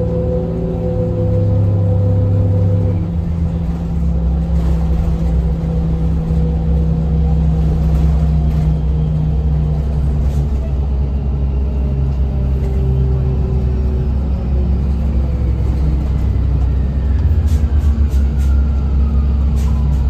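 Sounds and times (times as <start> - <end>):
bus drivetrain and road rumble: 0.0 - 20.0.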